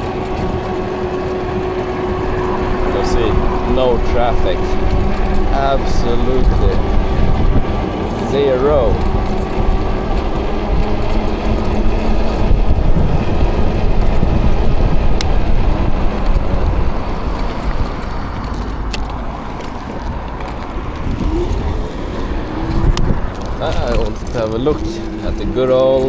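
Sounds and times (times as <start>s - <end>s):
road noise: 0.0s - 26.0s
wind rushing over microphone: 0.0s - 26.0s.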